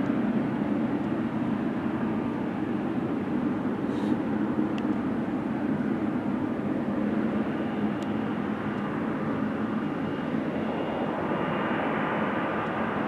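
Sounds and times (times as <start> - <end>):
distant jet engine rumble: 0.0 - 13.0
faint high whine: 0.0 - 13.0.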